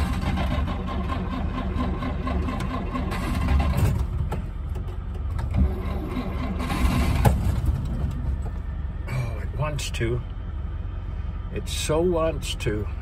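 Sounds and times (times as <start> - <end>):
car engine cranking and sputtering: 0.0 - 11.0.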